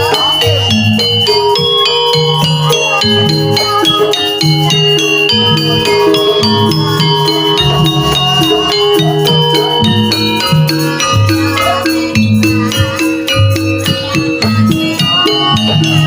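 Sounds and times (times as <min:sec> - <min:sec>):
metal percussion melody: 0:00.0 - 0:16.0.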